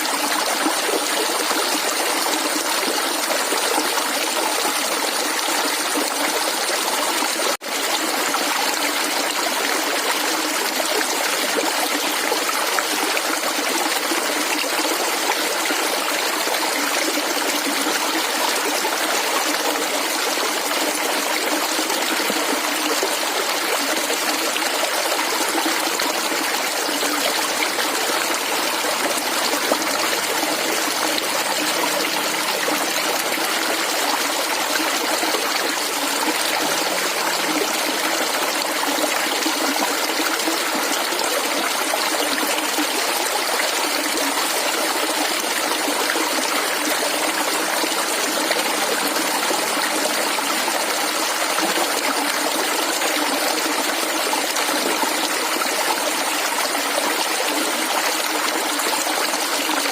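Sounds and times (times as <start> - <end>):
water flowing over stones: 0.0 - 59.9.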